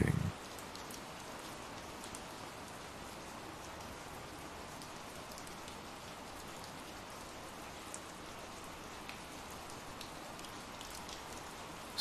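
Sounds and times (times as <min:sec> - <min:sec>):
soft steady rain: 0:00.0 - 0:12.0
raindrops ticking: 0:00.3 - 0:12.0.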